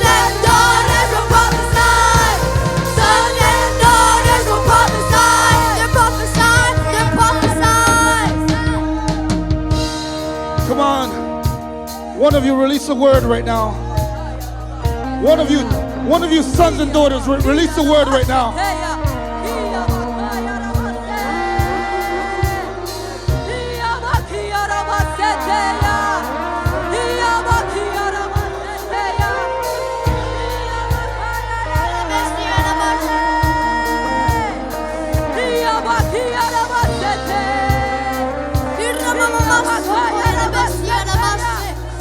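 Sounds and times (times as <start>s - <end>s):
gospel worship music: 0.0s - 42.0s.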